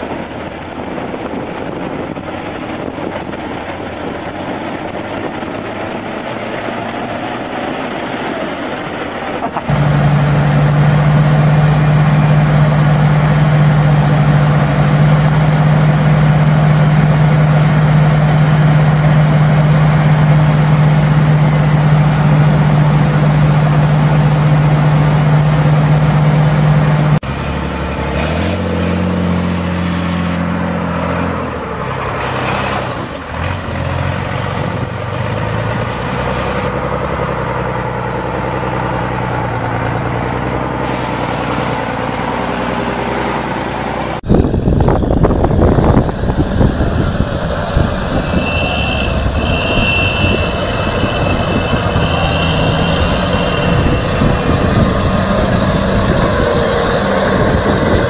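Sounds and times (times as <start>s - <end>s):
tractor engine droning under load: 0.0s - 58.0s
buggy engine revving: 9.6s - 58.0s.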